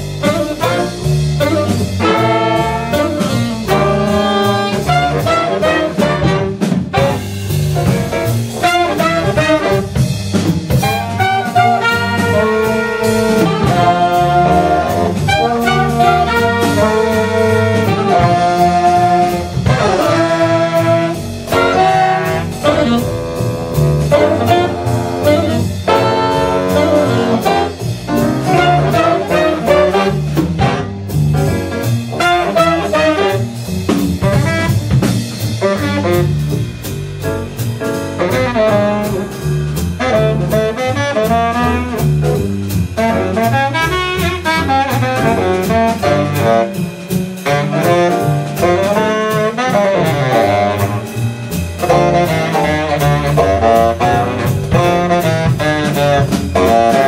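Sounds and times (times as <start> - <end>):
drums: 0.0 - 57.0
horn section playing: 0.0 - 57.0
piano: 0.0 - 57.0
upright bass: 0.0 - 57.0.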